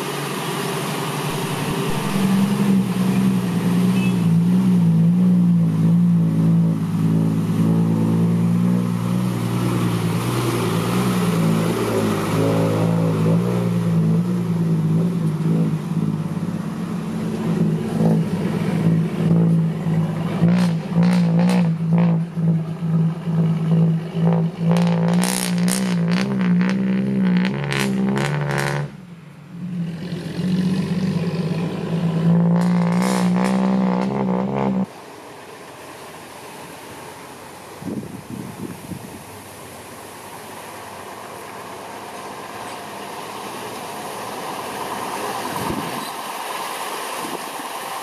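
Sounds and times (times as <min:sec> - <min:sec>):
diesel truck engine running hard: 0:00.0 - 0:39.8.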